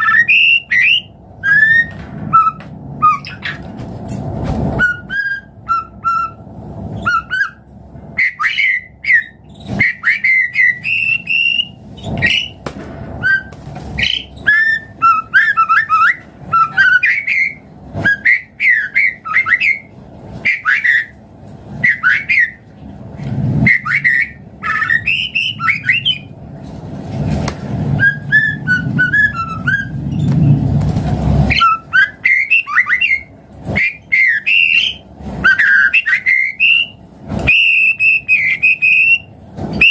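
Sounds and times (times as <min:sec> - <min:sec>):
bird singing whistled phrases: 0:00.0 - 0:03.6, 0:04.8 - 0:06.4, 0:07.0 - 0:07.6, 0:08.2 - 0:12.6, 0:13.2 - 0:21.2, 0:21.8 - 0:22.6, 0:23.6 - 0:26.3, 0:28.0 - 0:30.0, 0:31.5 - 0:39.9.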